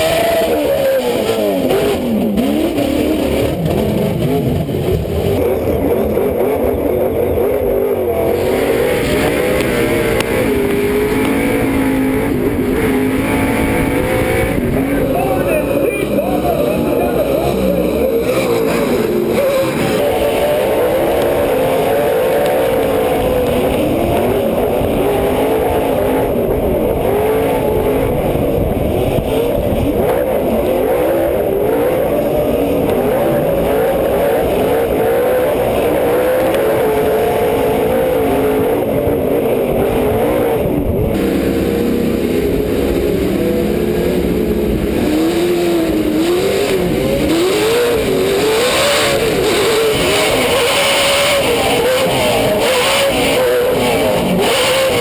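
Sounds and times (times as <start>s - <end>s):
race truck engine revving: 0.0s - 55.0s
tyre and dirt noise: 0.0s - 55.0s.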